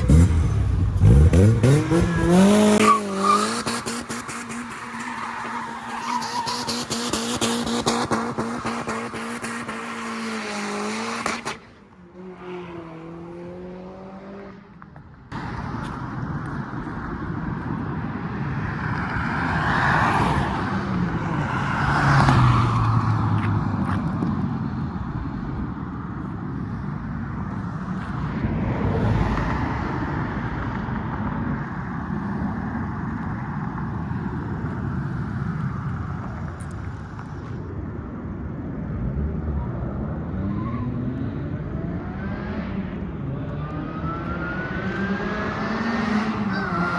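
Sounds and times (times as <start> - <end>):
car engines revving: 0.0 - 46.9
passing traffic: 0.0 - 46.9.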